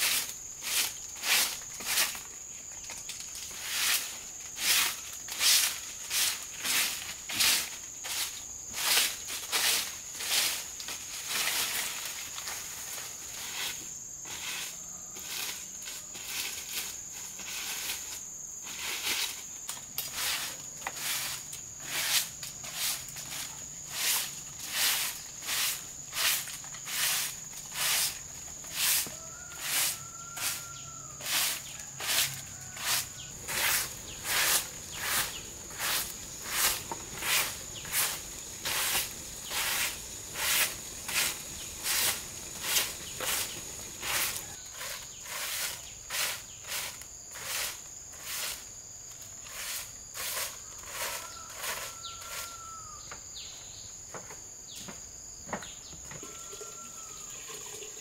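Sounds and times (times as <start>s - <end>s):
broom sweeping bamboo slats: 0.0s - 53.2s
high insect drone: 0.0s - 58.0s.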